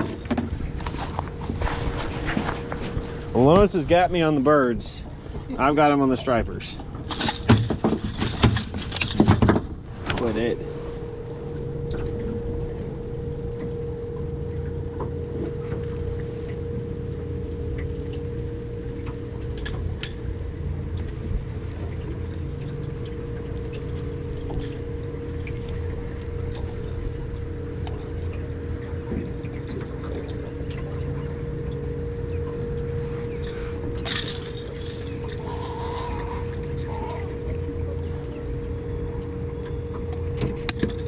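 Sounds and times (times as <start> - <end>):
steady motor hum: 0.0 - 41.0
water splashing and trickling: 0.0 - 41.0.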